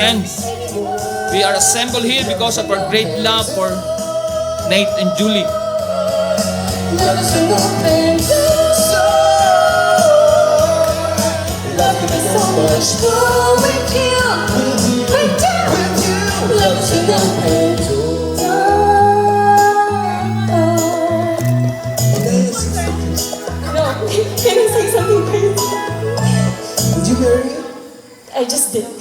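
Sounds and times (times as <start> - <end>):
pop song with singer: 0.0 - 29.0.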